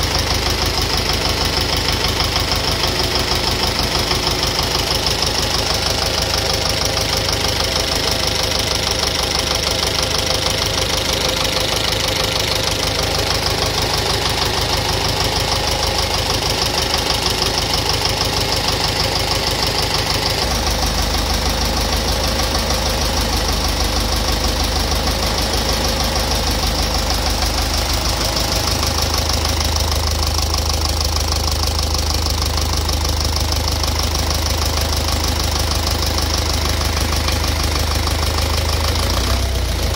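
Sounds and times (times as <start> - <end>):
engine idling with rapid knock: 0.0 - 39.9.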